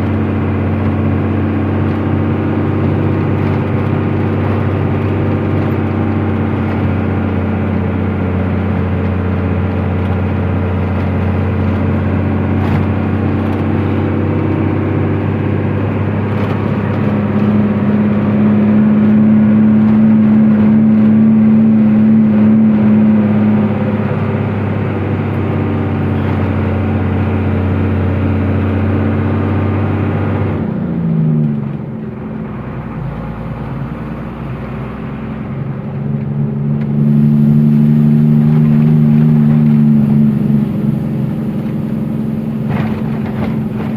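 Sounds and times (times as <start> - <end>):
truck engine droning: 0.0 - 43.9.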